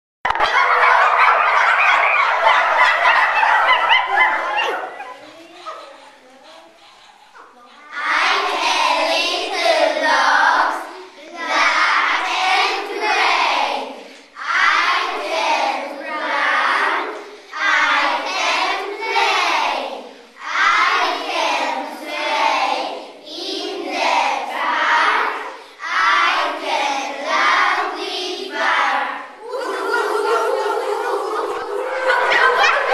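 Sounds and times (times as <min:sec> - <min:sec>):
children singing: 0:00.3 - 0:32.9.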